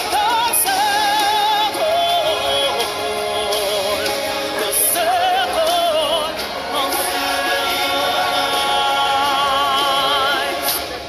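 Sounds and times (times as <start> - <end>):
background music with singing: 0.0 - 11.0.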